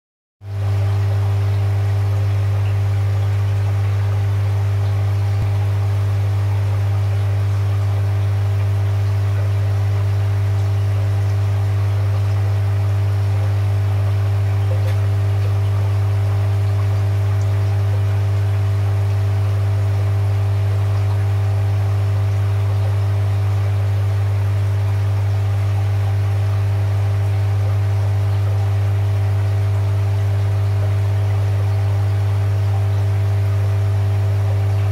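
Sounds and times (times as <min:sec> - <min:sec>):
low hum of aquarium equipment: 0:00.4 - 0:34.9
airstone bubbling: 0:00.7 - 0:34.9.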